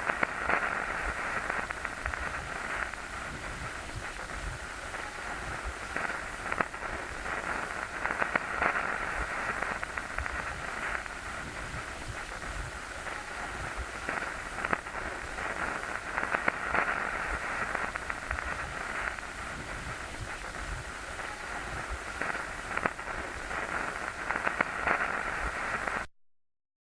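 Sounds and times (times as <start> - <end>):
crackling pops and clicks: 0.0 - 26.1
static hiss: 0.0 - 26.1.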